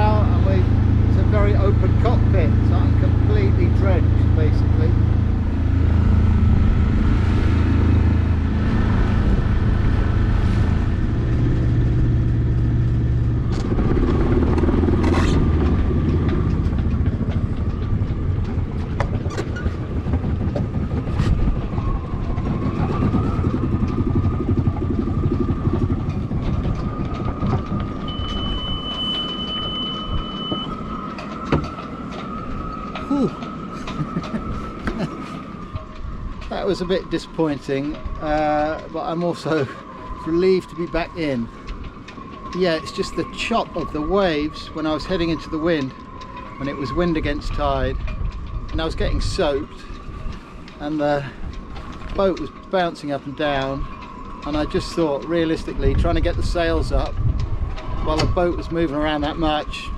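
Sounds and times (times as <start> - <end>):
boat engine motoring: 0.0 - 59.9.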